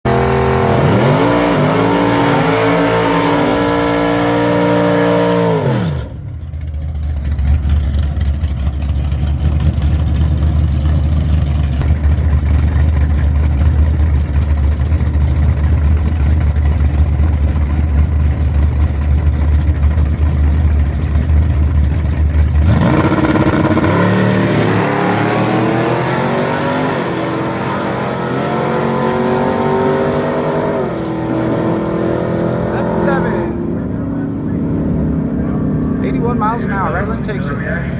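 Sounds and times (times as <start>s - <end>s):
race car engine accelerating: 0.0s - 6.3s, 9.5s - 37.9s.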